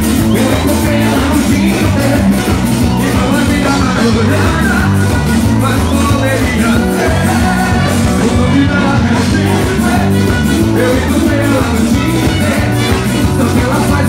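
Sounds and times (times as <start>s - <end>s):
live band music through pa: 0.0s - 14.0s
person singing: 0.0s - 14.0s.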